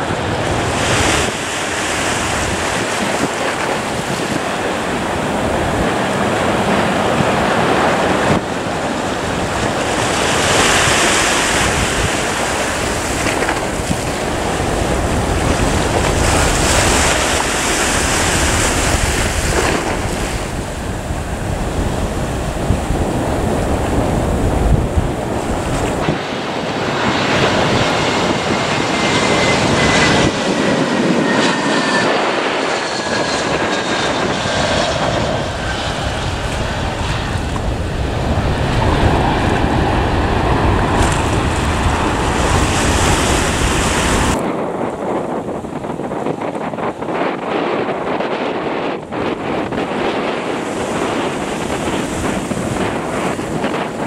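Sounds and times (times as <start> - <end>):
faint jet engine whine: 0.0 - 54.0
wind buffeting microphone: 0.0 - 54.0.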